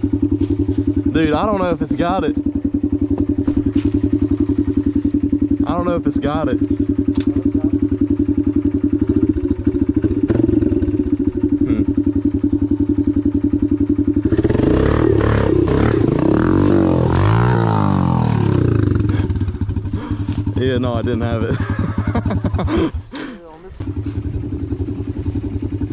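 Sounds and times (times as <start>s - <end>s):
dirt bike engine revving: 0.0s - 22.9s, 23.8s - 25.9s.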